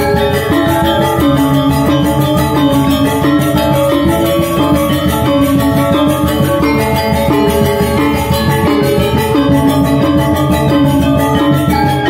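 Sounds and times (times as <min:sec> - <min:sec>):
hand drums: 0:00.0 - 0:12.0
metallophones ringing: 0:00.0 - 0:12.0.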